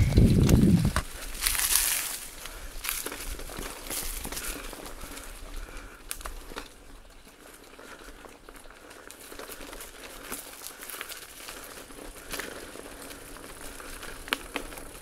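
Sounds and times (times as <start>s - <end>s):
bike clicks and rattles: 0.0s - 15.0s
bike tyres crunching dry leaves: 0.0s - 15.0s.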